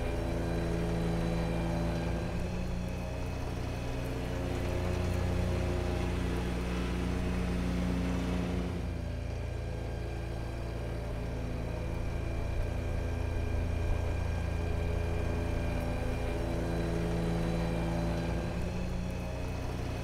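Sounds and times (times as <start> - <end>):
mower engine hum: 0.0 - 20.0.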